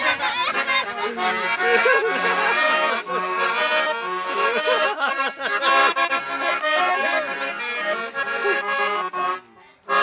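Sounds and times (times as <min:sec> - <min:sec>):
accordion playing chords: 0:00.0 - 0:10.0.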